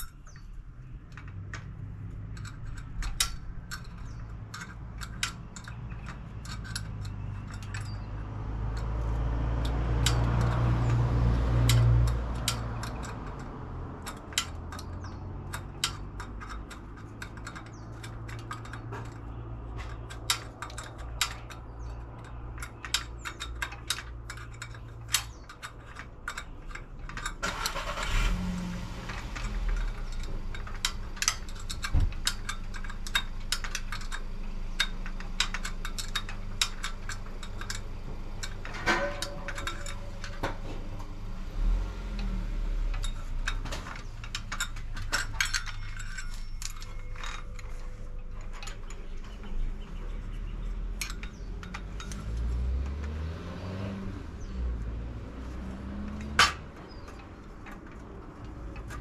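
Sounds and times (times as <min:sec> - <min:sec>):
metallic rigging clicks: 0:00.0 - 0:59.0.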